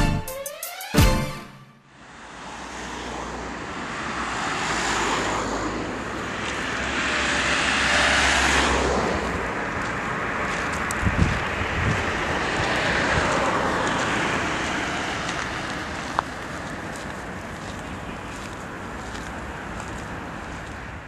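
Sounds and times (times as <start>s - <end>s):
car passing: 1.8s - 21.0s.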